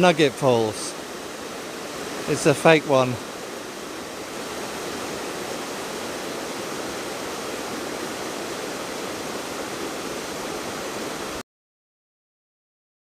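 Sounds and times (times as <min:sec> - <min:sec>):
water rushing down waterfall: 0:00.0 - 0:11.4.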